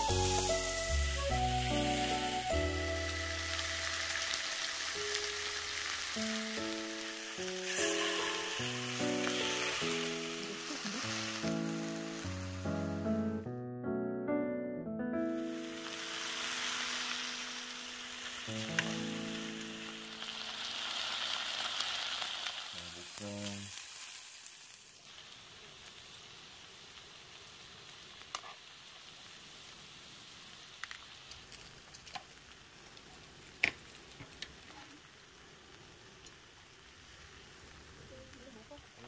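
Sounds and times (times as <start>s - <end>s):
meat sizzling on a griddle: 0.0s - 13.1s, 15.4s - 39.0s.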